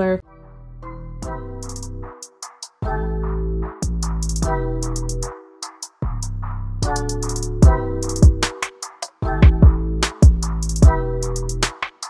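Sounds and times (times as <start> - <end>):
electronic music with drum-machine beat: 1.2 - 12.0.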